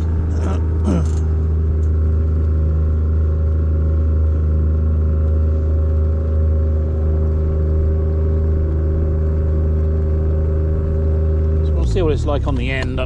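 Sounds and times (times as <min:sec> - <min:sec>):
boat motor droning: 0:00.0 - 0:13.0.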